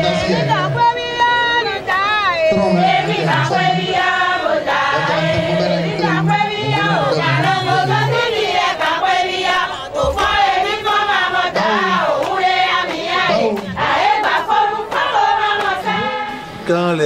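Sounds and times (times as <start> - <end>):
group singing a chant: 0.0 - 16.7.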